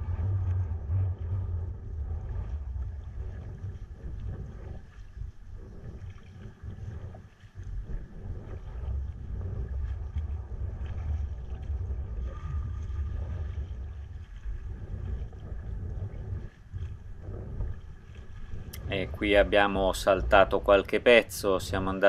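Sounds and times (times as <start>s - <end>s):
faint water splashing: 0.0s - 22.0s
wind buffeting microphone: 0.0s - 22.0s.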